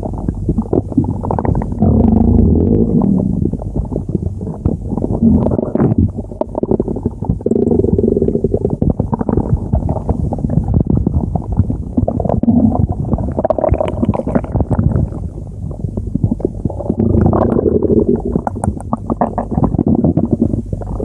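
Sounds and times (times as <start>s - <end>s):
stomach growling and gurgling: 0.0s - 21.0s.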